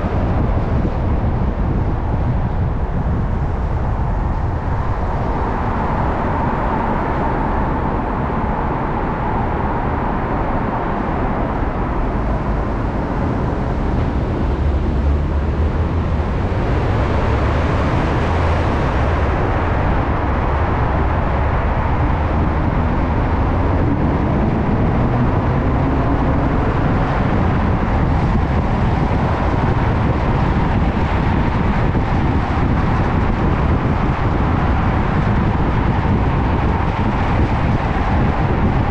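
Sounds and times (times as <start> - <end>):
car tyre and engine noise: 0.0 - 38.9
surrounding traffic: 0.0 - 38.9.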